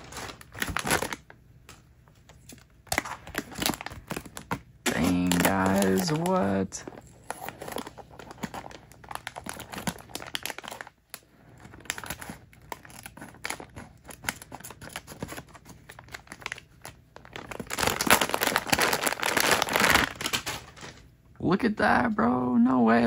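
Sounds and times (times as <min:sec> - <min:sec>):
plastic bag crinkling: 0:00.0 - 0:21.1.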